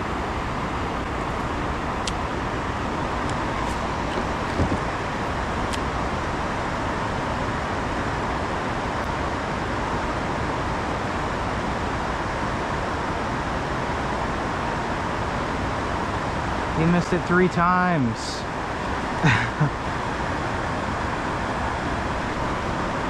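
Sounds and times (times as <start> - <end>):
river water rushing: 0.0 - 17.0, 18.0 - 23.0.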